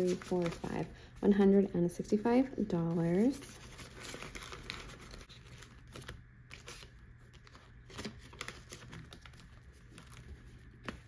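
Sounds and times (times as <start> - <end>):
binder pages and bills rustling: 0.0 - 11.0.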